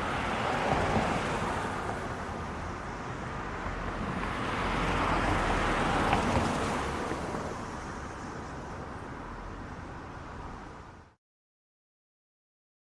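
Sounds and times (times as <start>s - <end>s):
traffic: 0.0s - 11.2s.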